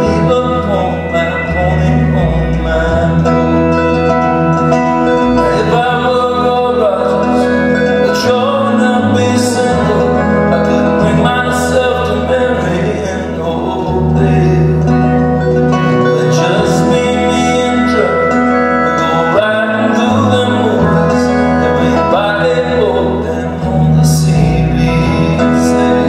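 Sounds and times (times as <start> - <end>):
country-folk band playing: 0.0 - 26.0
moving bass line: 0.0 - 26.0.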